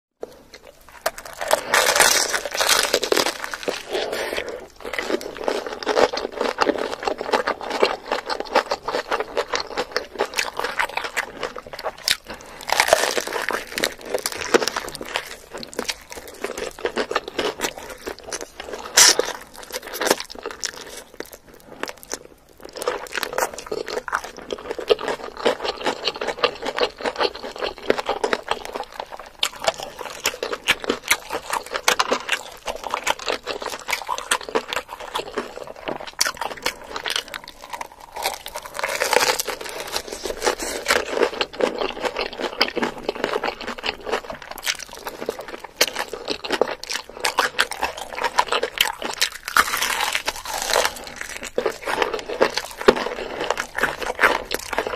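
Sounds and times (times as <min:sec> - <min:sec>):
crunching fried chicken: 0:00.2 - 0:54.9.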